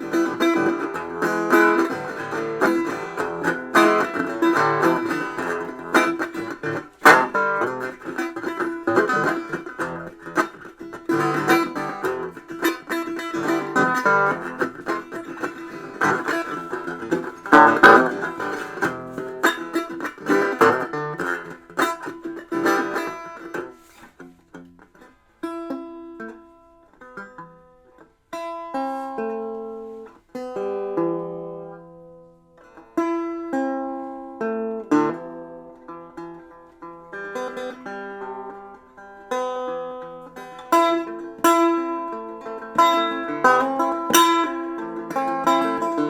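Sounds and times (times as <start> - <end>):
plucked string instrument: 0.0 - 46.0.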